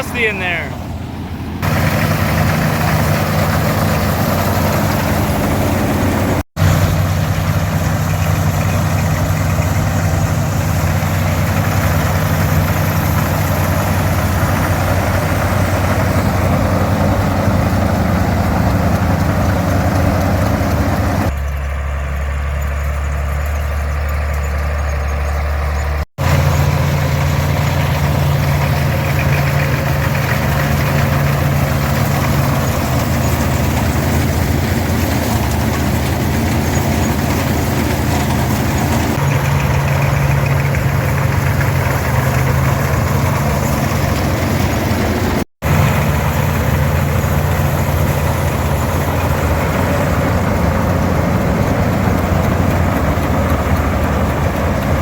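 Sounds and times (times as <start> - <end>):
combine machinery whirring: 0.0 - 25.4, 26.2 - 55.0
tractor engine under load: 0.0 - 55.0.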